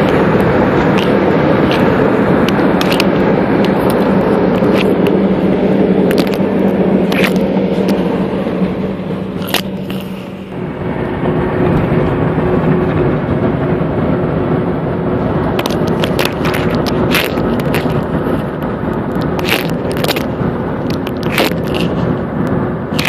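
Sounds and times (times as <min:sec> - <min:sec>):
sharp crackles and clicks: 0:00.0 - 0:10.5, 0:11.6 - 0:23.0
car road noise: 0:00.0 - 0:23.0.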